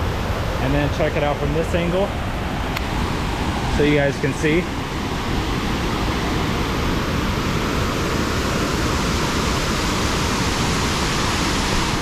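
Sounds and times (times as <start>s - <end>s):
waterfall crashing: 0.1s - 12.0s.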